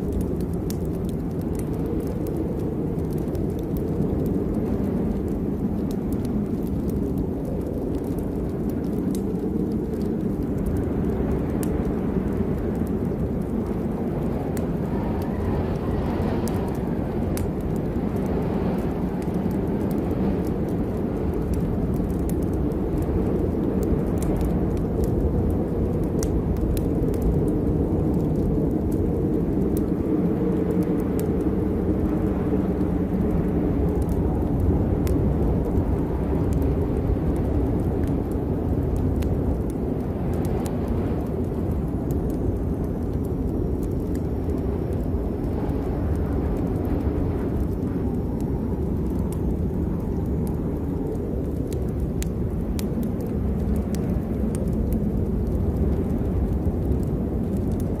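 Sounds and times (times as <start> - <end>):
rain rumble: 0.0 - 58.0
raindrop ticks: 0.0 - 58.0.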